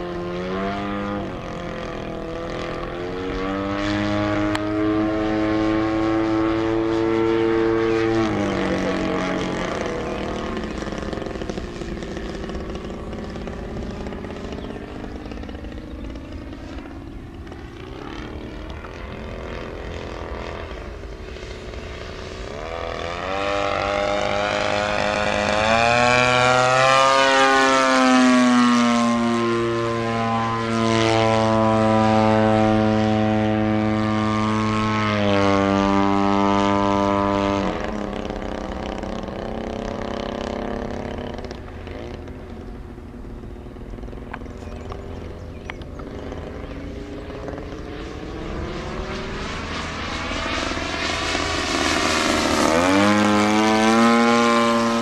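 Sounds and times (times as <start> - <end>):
model airplane engine and propeller: 0.0 - 55.0.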